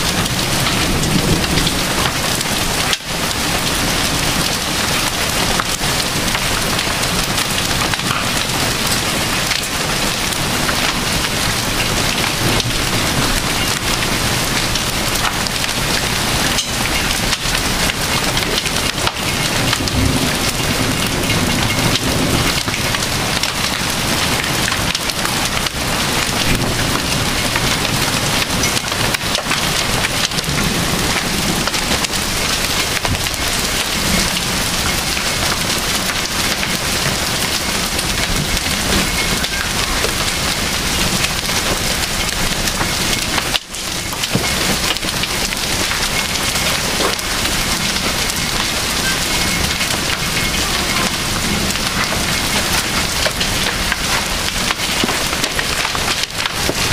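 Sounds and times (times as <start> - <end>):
hailstones striking hard surfaces: 0.0 - 56.9
heavy rain hiss: 0.0 - 56.9.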